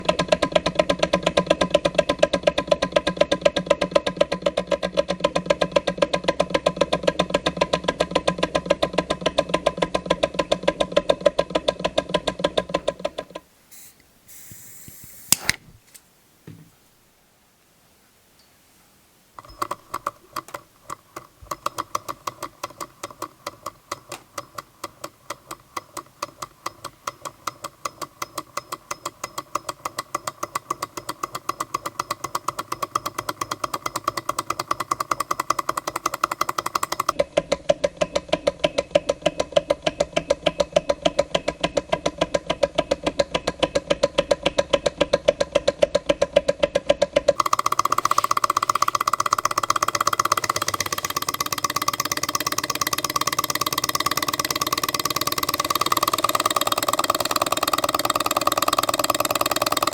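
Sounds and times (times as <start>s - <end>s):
stirling engine clacking: 0.0s - 13.4s, 19.4s - 59.9s.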